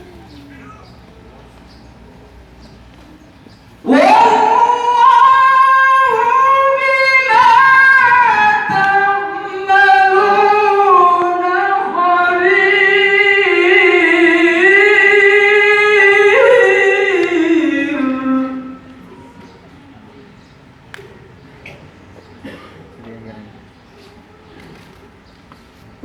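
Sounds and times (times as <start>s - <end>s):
person reciting melodically: 0.0s - 25.2s.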